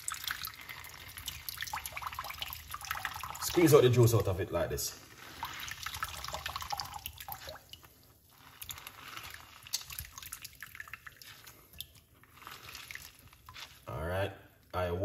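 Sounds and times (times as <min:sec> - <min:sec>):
juice streaming and dripping into bowl: 0:00.0 - 0:14.8.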